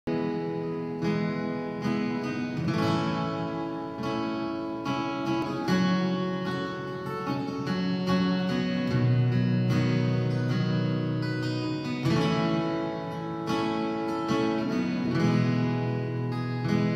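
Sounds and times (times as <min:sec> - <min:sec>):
acoustic guitar strumming chords: 0:00.1 - 0:16.9.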